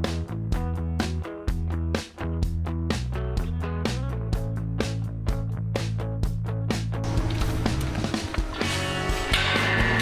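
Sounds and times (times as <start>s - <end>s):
guitar over a steady beat: 0.0s - 10.0s.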